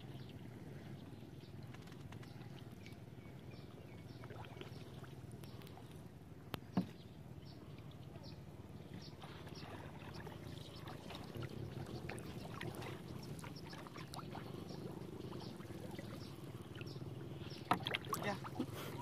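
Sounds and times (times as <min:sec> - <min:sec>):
low steady hum: 0:00.0 - 0:19.0
water splashing and trickling: 0:00.0 - 0:19.0.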